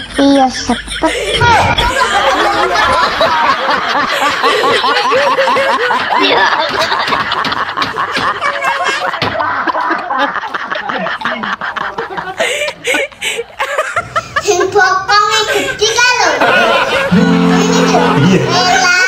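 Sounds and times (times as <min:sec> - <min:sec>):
child laughing hard: 0:00.0 - 0:10.4, 0:12.2 - 0:19.0.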